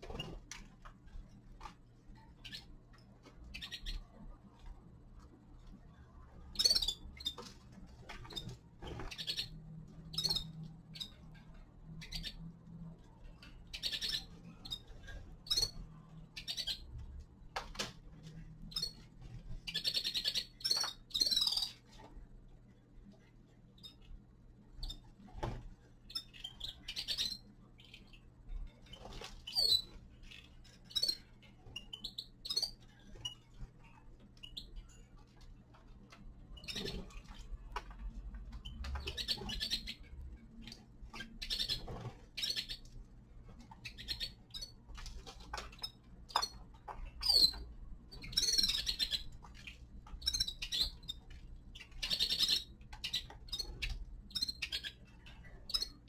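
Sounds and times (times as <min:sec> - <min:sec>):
faint low hum: 0:00.0 - 0:56.0
finches chirping: 0:02.1 - 0:04.4, 0:05.9 - 0:17.1, 0:18.3 - 0:22.1, 0:23.6 - 0:25.2, 0:26.0 - 0:56.0.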